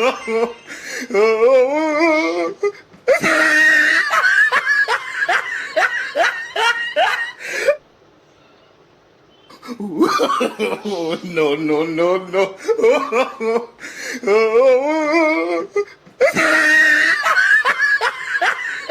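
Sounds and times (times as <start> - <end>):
person laughing hard: 0.0 - 7.8, 9.5 - 11.5, 12.1 - 18.9.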